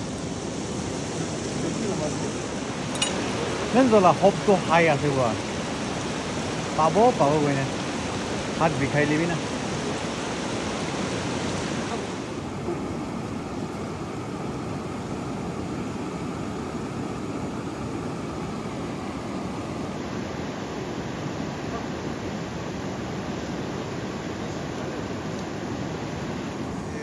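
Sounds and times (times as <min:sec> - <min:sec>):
river flowing over rocks: 0:00.0 - 0:27.0.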